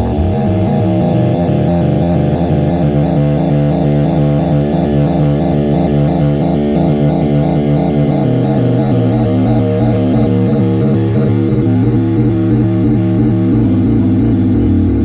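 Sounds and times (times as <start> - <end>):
low drone: 0.0 - 15.0
pulsing synthesizer noise music: 0.0 - 15.0.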